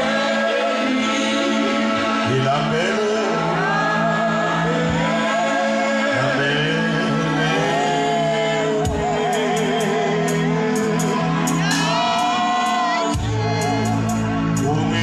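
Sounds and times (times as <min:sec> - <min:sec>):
gospel singing: 0:00.0 - 0:15.0.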